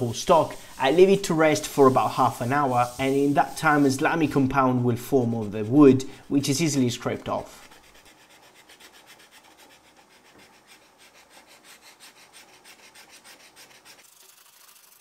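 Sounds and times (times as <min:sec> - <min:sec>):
scraper scraping wood: 0:00.3 - 0:15.0.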